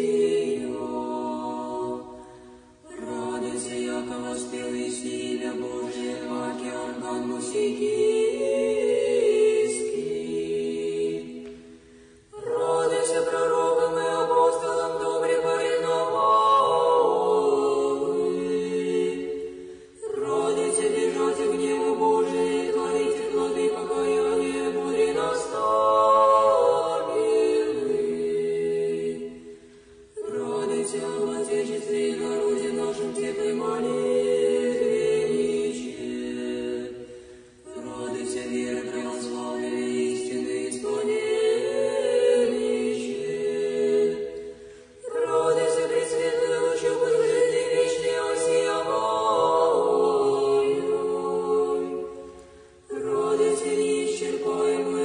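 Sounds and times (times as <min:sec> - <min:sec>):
choir singing chant: 0:00.0 - 0:55.0.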